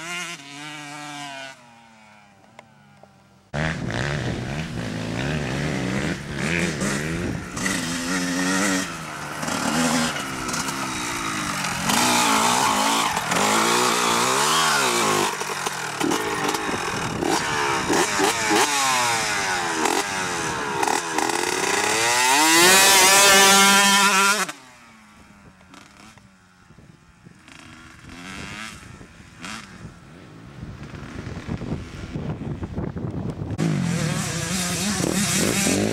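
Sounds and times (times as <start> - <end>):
distant engine: 0.0 - 30.1
dirt bike engines revving: 0.0 - 35.9.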